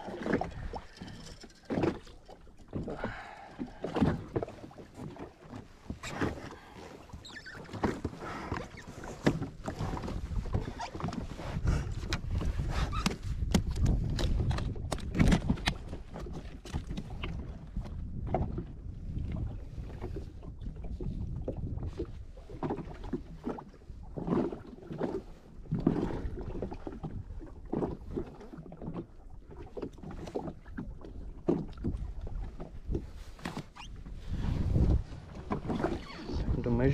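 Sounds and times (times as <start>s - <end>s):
water slapping against a hull: 0.0s - 36.9s.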